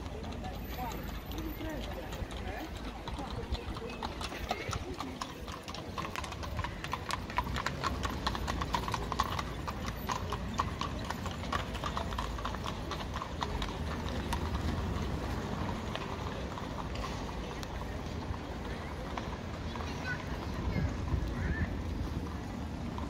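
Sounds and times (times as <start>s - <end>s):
horse hooves on pavement: 0.0s - 23.0s.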